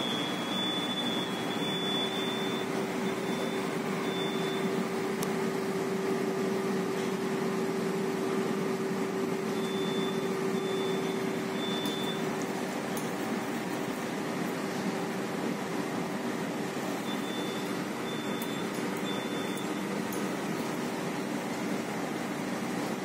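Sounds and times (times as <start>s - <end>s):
machinery and ventilation hum: 0.0s - 23.0s.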